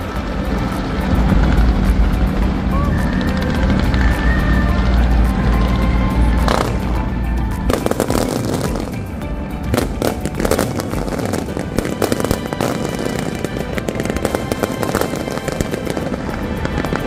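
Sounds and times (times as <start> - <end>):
background music: 0.0 - 17.0
fireworks bursting and crackling: 0.0 - 17.0.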